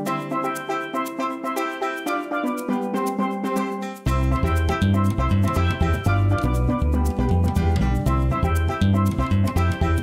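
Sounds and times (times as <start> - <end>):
bright melody of quick notes: 0.0 - 10.0.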